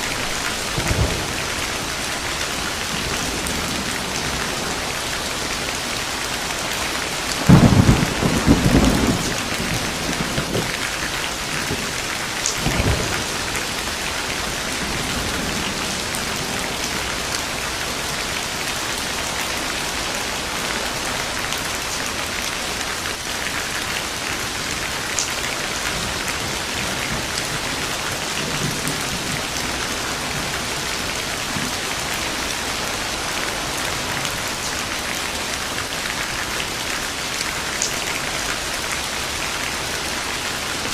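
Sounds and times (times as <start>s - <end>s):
thunder rumbling: 0.0s - 36.8s
heavy rain falling: 0.0s - 40.9s.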